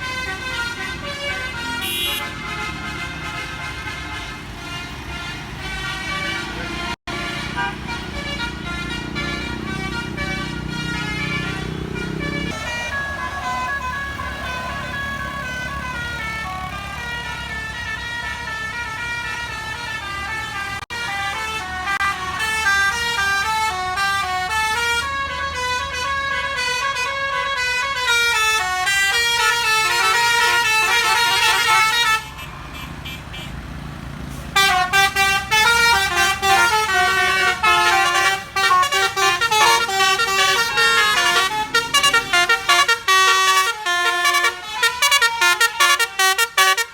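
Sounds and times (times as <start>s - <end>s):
bus engine running: 0.0s - 46.9s
bus horn playing melody: 0.0s - 46.9s.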